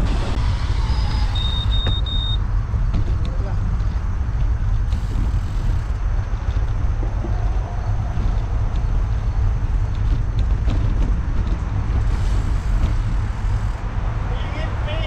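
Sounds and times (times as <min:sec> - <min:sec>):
road traffic noise: 0:00.0 - 0:15.0
wind buffeting microphone: 0:00.0 - 0:15.0.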